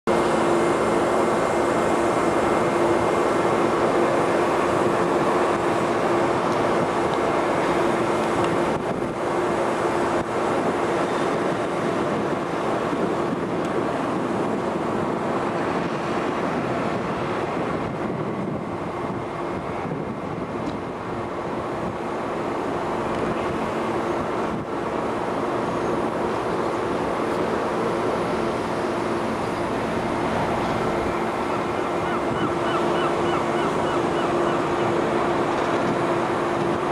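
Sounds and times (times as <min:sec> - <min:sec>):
ferry engines droning: 0:00.1 - 0:36.9.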